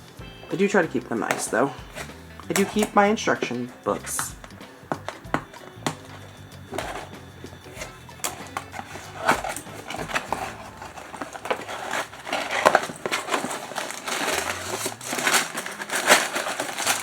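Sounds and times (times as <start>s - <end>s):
plastic and paper packaging crinkling: 0.6s - 17.0s.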